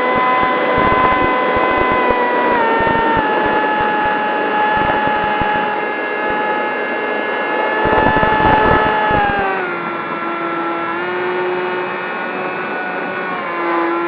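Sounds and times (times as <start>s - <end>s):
wind buffeting microphone: 0.0s - 13.7s
electric motor propeller whine: 0.0s - 14.0s.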